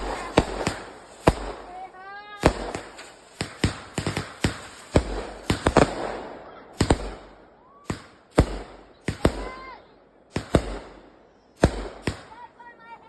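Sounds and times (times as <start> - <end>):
fireworks bangs with crackle: 0.0 - 9.7, 10.3 - 12.4.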